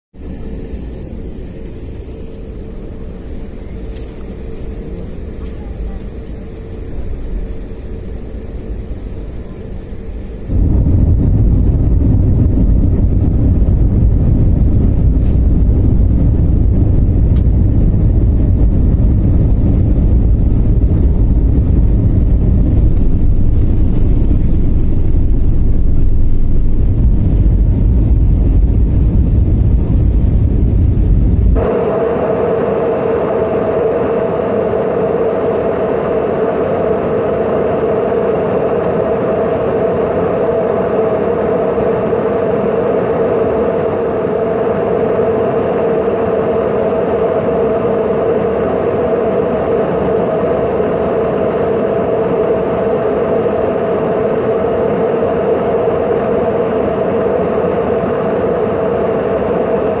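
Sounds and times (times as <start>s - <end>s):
airplane engines droning: 0.1s - 60.0s.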